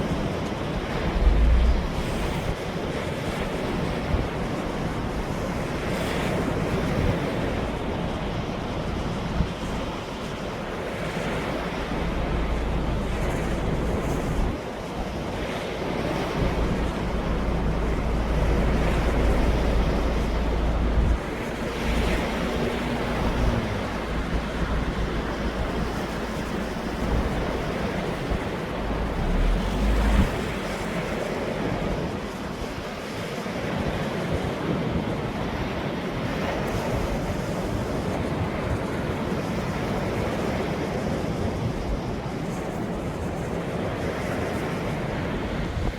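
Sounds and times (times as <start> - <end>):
ocean waves breaking: 0.0 - 45.9
wind buffeting microphone: 0.0 - 45.9.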